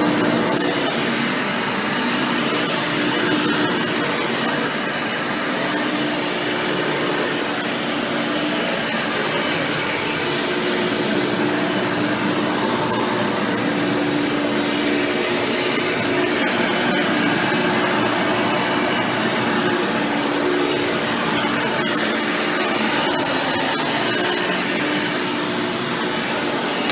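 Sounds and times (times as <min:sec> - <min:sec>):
upright vacuum cleaner running: 0:00.0 - 0:26.9.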